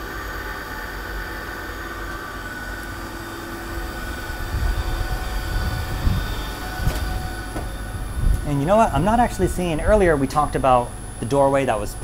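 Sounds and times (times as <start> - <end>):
low engine rumble: 0.0 - 12.0
machinery hum and whine: 0.0 - 12.0.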